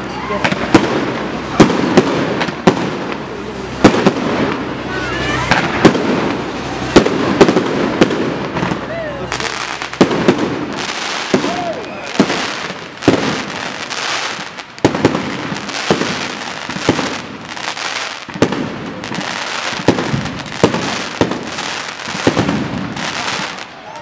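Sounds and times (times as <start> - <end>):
crackle of firework stars: 0.0 - 24.0.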